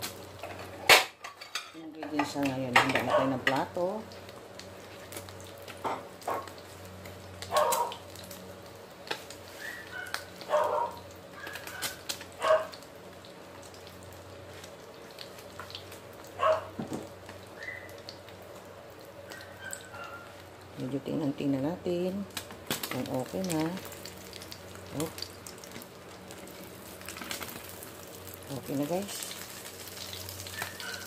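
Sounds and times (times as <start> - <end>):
omelette sizzling in oil: 0.0 - 31.0.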